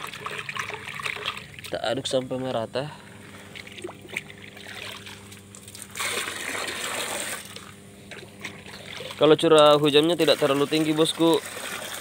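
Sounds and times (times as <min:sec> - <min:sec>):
water trickling and splashing: 0:00.0 - 0:02.4, 0:03.4 - 0:12.0
steady low hum: 0:00.0 - 0:12.0.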